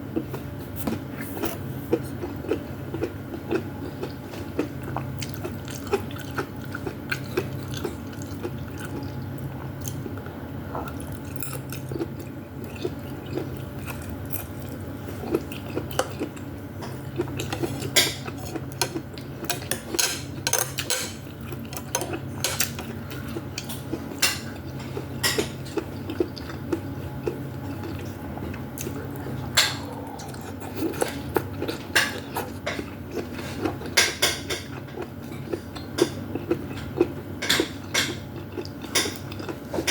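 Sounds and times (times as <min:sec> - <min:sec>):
chewing: 0:00.2 - 0:39.9.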